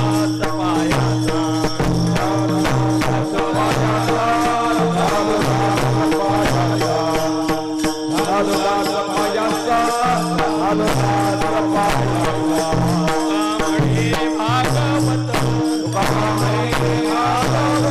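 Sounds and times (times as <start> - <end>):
chanted singing: 0.0 - 17.9
jingling percussion: 0.0 - 17.9.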